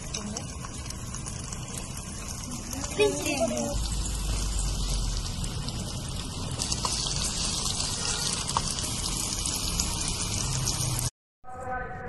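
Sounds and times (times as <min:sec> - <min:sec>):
vegetables sizzling and bubbling: 0:00.0 - 0:11.1.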